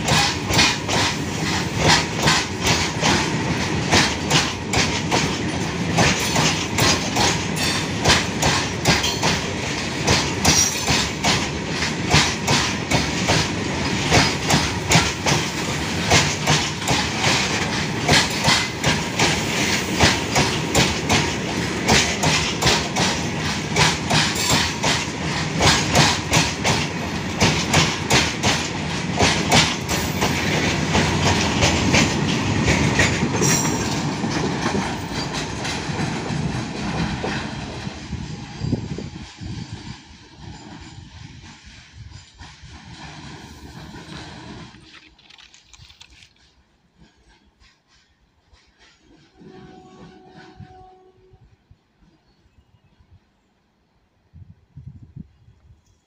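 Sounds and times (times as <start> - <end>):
freight train wheels clattering: 0.0 - 44.9.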